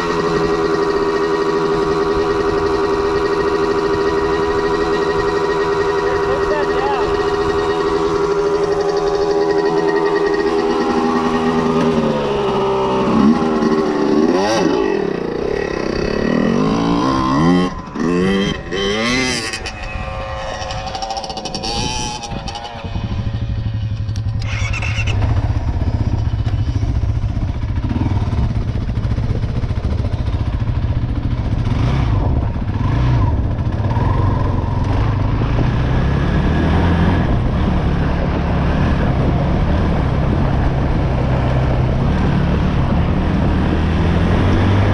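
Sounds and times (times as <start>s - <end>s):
atv engine revving and idling: 0.0s - 44.9s.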